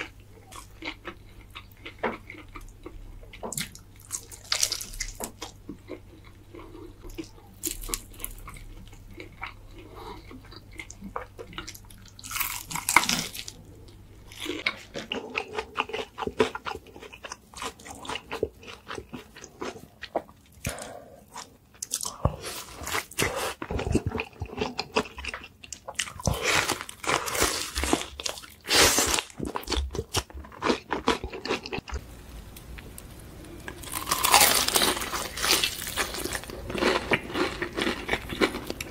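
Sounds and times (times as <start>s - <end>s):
chewing: 0.0s - 32.0s, 33.6s - 38.9s.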